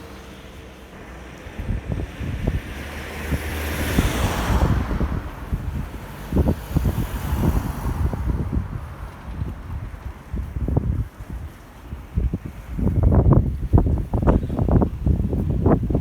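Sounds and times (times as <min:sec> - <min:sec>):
car passing by: 0:00.0 - 0:16.0
wind buffeting microphone: 0:00.0 - 0:16.0.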